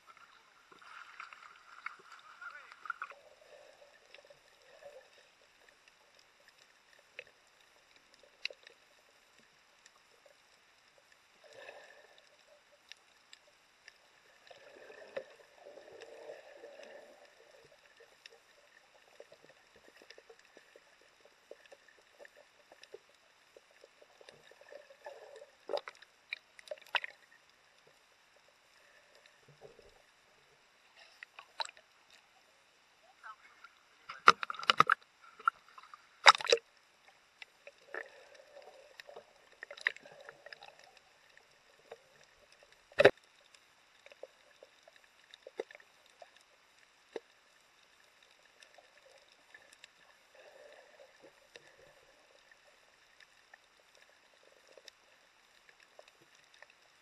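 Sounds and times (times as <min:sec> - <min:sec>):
muffled underwater water movement: 0:00.0 - 0:57.0.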